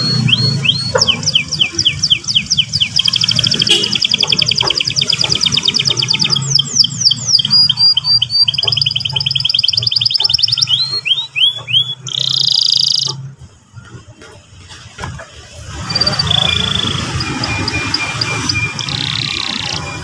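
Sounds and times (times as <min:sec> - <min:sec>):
canary singing: 0:00.0 - 0:13.6, 0:15.6 - 0:20.0.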